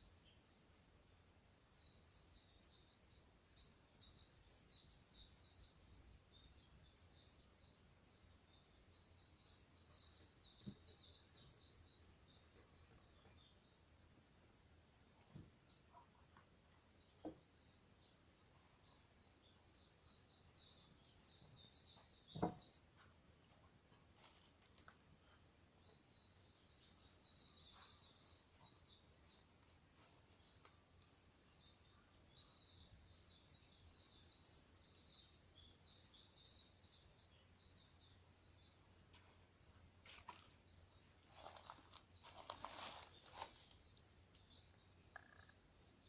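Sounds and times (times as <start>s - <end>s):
faint bird song: 0.0s - 46.0s.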